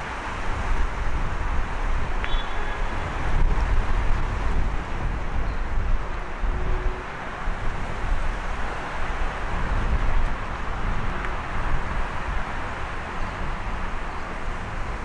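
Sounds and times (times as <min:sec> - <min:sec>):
distant road traffic: 0:00.0 - 0:15.0
wind rumbling on microphone: 0:00.0 - 0:15.0.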